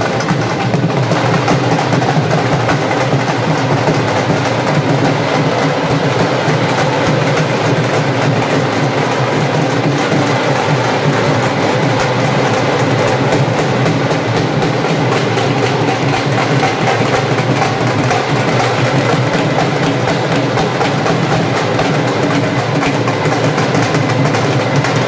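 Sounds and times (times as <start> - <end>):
drummers beating fast rhythm: 0.0 - 25.0.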